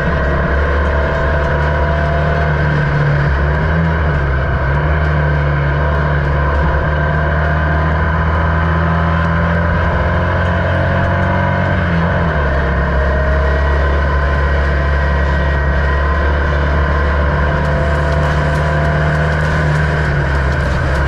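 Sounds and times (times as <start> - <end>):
racing car engine running hard: 0.0 - 21.0.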